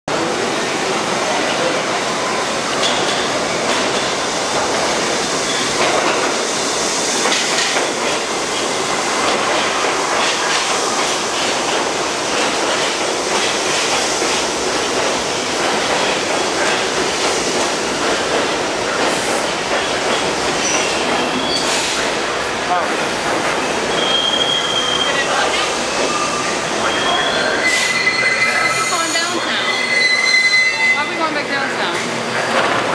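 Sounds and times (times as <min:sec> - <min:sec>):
subway train rumble and hiss: 0:00.1 - 0:32.9.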